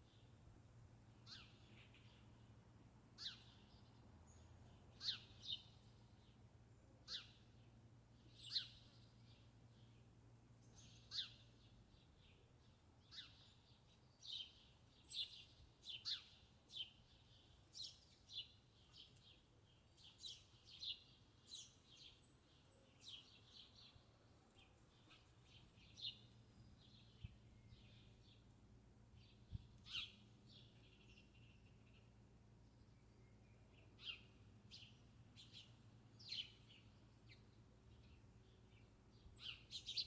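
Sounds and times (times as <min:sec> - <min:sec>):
small birds chirping: 0:01.2 - 0:02.5, 0:03.2 - 0:06.4, 0:10.6 - 0:40.0.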